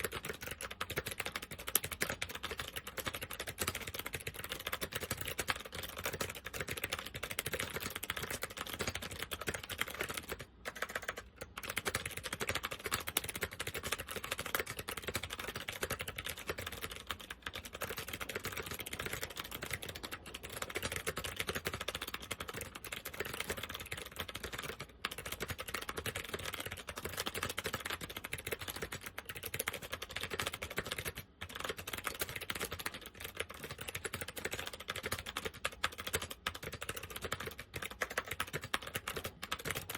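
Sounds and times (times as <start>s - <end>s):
fast typing on clicky keyboard: 0.0s - 39.9s.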